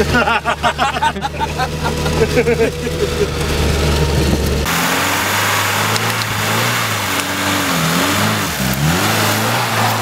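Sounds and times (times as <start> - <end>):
car engine revving under load: 0.0 - 10.0.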